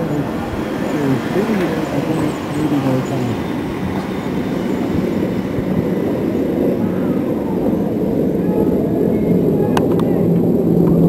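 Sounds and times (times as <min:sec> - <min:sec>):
jet aircraft rumble overhead: 0:00.0 - 0:11.0.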